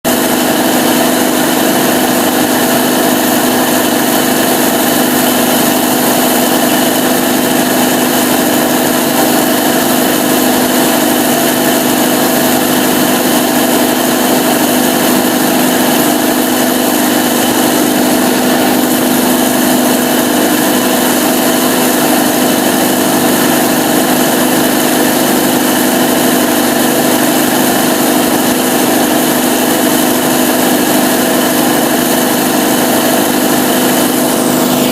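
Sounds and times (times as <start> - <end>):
diesel generator running: 0.0 - 34.9.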